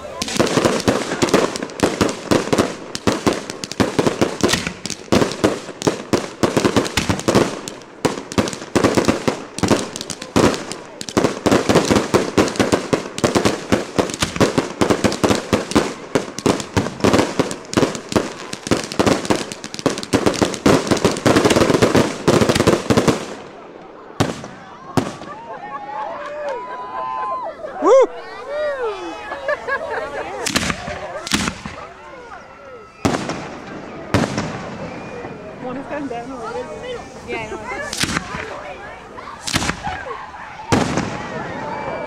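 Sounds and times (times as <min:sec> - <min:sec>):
fireworks popping and crackling: 0:00.0 - 0:25.4, 0:30.4 - 0:32.0, 0:33.0 - 0:42.0.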